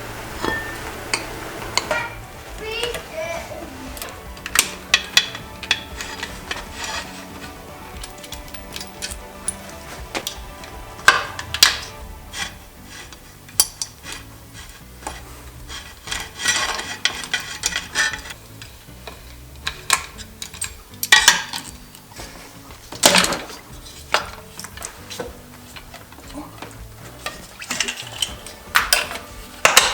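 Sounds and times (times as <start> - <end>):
rattling scrapes: 0.0 - 29.9
metal tools clinking and scraping: 0.4 - 29.9.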